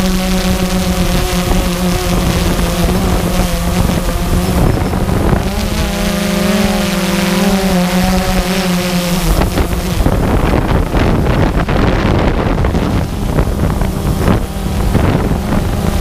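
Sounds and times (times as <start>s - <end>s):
drone motors humming: 0.0s - 16.0s
wind buffeting microphone: 0.0s - 16.0s.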